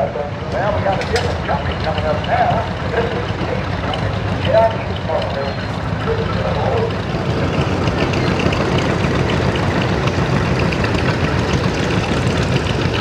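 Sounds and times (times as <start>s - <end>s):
tractor engines idling: 0.0s - 13.0s.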